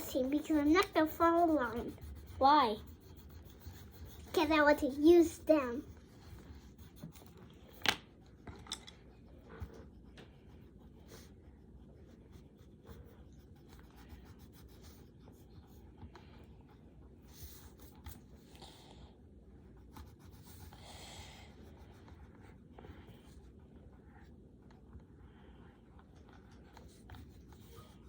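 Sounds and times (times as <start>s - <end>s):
coloured pencils scratching on paper: 0.0s - 28.0s.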